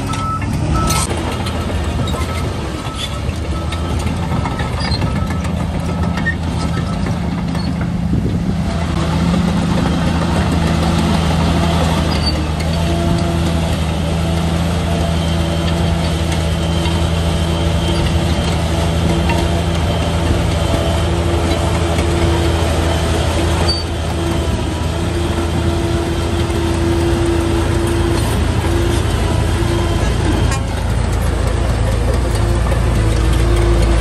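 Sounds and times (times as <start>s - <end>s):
bulldozer diesel engine running: 0.0s - 34.0s.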